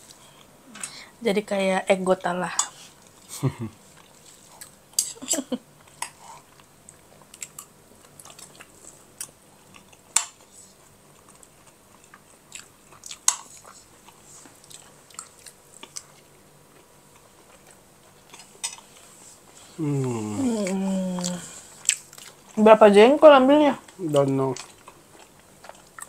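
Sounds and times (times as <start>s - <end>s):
person chewing food: 3.0s - 5.1s, 5.8s - 22.6s, 23.8s - 26.0s.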